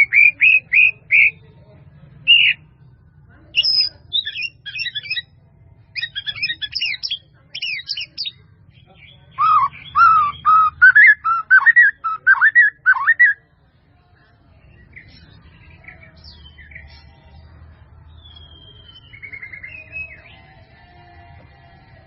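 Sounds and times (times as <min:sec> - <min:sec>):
bird singing: 0:00.0 - 0:01.5, 0:02.3 - 0:02.7, 0:03.5 - 0:13.4, 0:14.6 - 0:20.8.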